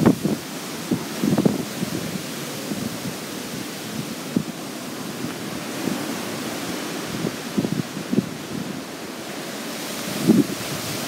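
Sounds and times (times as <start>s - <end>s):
strong wind rushing: 0.0s - 11.0s
wind buffeting microphone: 0.0s - 11.0s.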